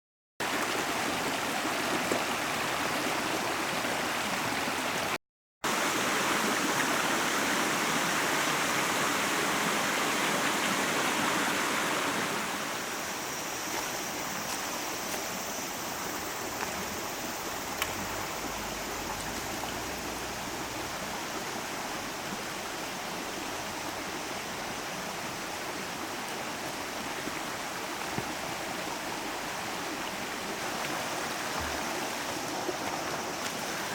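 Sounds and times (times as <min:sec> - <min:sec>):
stream water flowing: 0:00.4 - 0:33.9.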